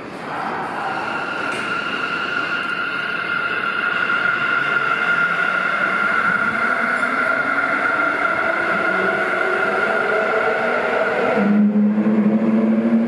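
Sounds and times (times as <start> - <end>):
train high whine: 0.0 - 13.0.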